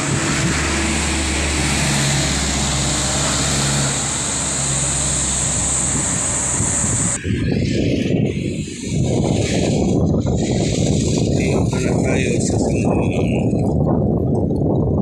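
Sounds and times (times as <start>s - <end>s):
road traffic noise: 0.0s - 14.6s
truck engine running: 0.0s - 14.8s.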